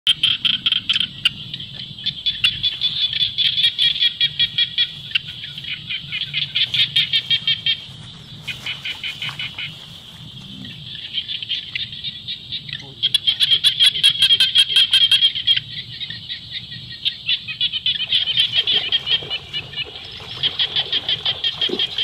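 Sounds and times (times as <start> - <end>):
birds chirping: 0.1 - 22.0.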